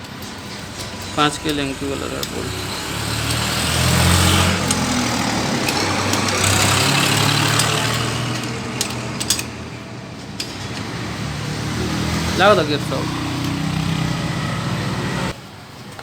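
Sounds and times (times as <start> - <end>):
motorcycle engine running: 0.0 - 9.8, 10.7 - 15.4.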